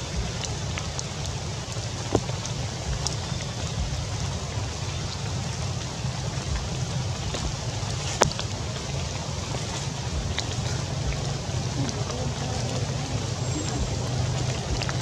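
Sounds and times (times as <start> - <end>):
low rumble: 0.0 - 15.0
rain on tree leaves: 0.0 - 15.0
water drips: 0.0 - 15.0.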